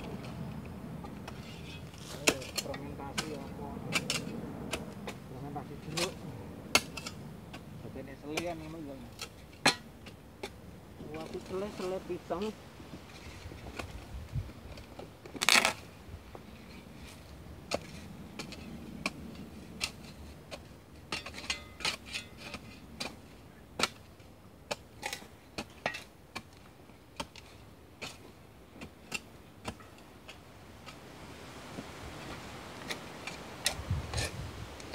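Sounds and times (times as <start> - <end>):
spades chopping and scraping soil: 0.0 - 34.9.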